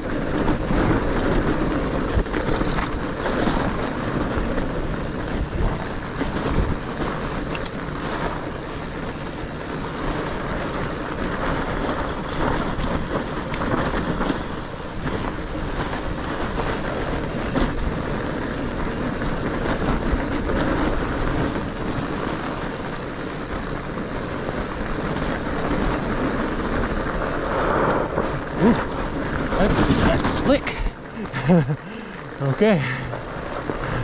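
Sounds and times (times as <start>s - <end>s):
bike rattling over bumps: 0.0s - 34.0s
bike tyres rumbling on snow: 0.0s - 34.0s.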